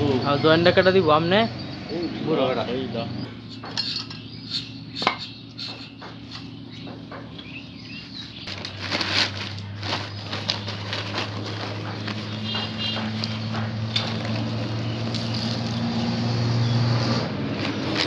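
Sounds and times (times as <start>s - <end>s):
hand tools clinking and knocking: 1.4s - 15.8s.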